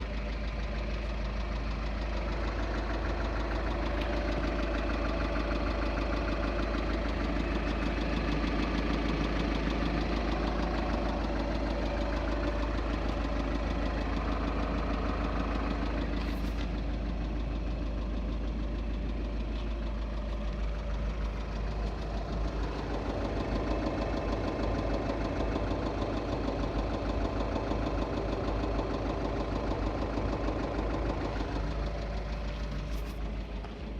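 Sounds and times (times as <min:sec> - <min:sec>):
diesel engine running with a knock: 0:00.0 - 0:33.9.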